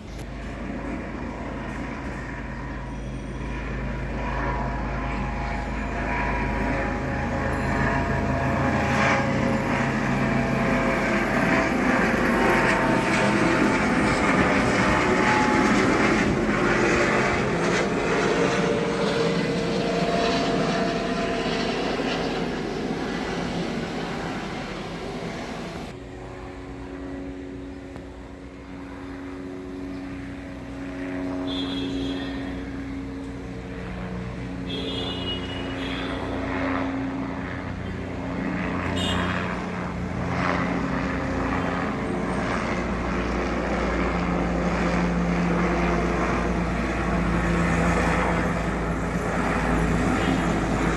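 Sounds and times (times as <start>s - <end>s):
propeller aircraft engines: 0.0s - 50.9s.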